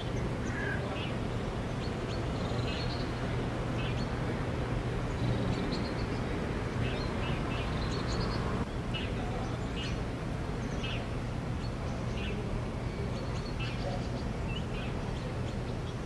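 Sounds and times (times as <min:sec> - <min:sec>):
low outdoor hum: 0:00.0 - 0:16.0
small birds chirping: 0:00.0 - 0:16.0.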